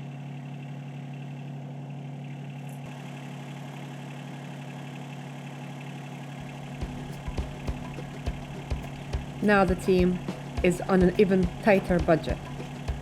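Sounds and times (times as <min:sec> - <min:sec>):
machine engine idling: 0:00.0 - 0:13.0.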